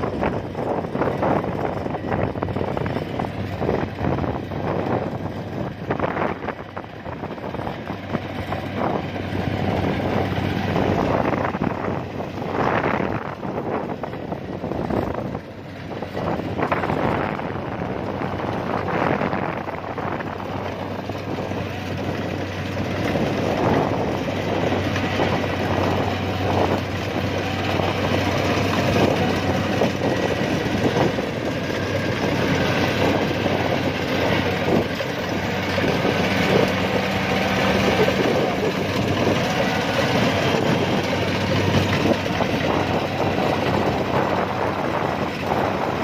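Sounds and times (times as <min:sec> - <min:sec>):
diesel engine running: 0:00.0 - 0:46.0
machinery clatter: 0:00.0 - 0:46.0.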